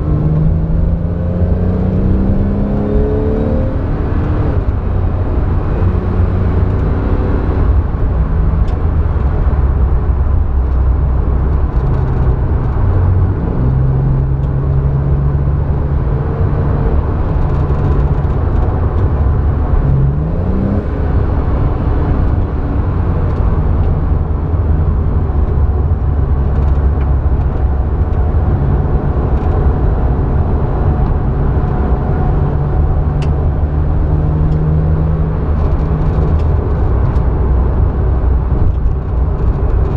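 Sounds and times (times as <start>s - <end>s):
car engine from inside cabin: 0.0s - 39.9s
steady low rumble: 3.6s - 39.9s.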